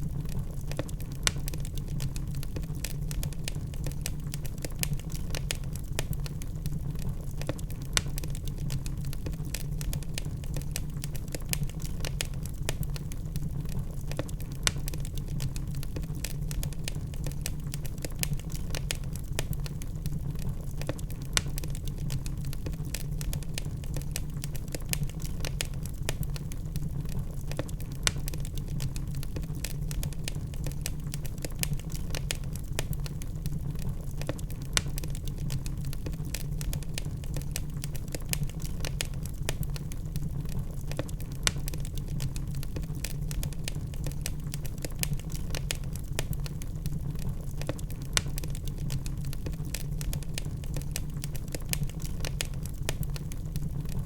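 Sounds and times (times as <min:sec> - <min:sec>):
fire low rumble: 0:00.0 - 0:54.0
fire popping: 0:00.0 - 0:54.0
wood fire crackling: 0:00.0 - 0:54.0.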